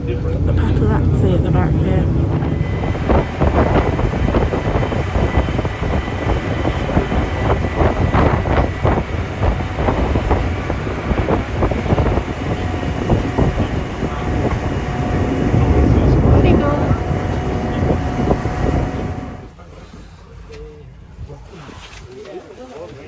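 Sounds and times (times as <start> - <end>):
truck driving over rough ground: 0.0 - 19.5
vehicle rattles and clunks: 0.0 - 19.6.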